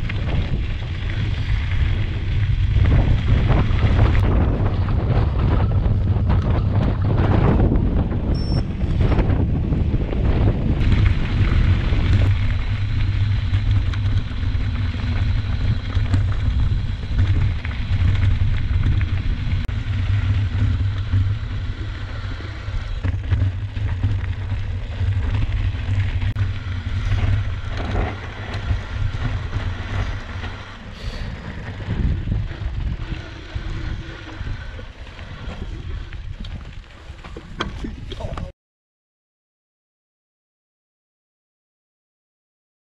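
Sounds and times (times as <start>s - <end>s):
bike tyres on gravel: 0.0s - 38.5s
wind buffeting microphone: 0.0s - 38.5s.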